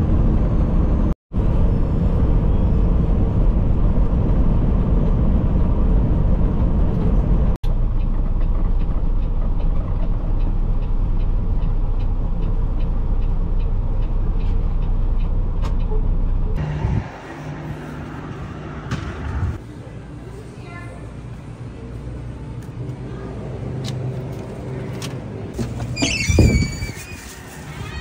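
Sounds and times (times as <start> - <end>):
truck engine and road rumble: 0.0 - 28.0.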